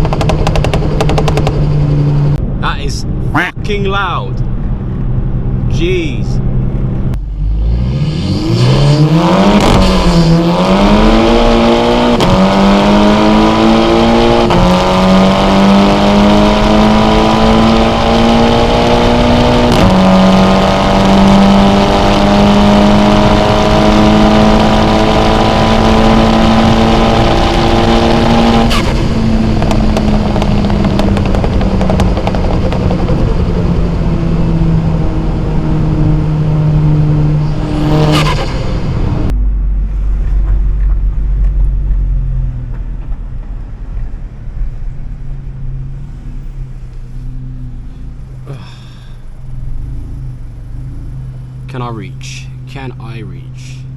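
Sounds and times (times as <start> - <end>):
car engine accelerating through gears: 6.4 - 53.9.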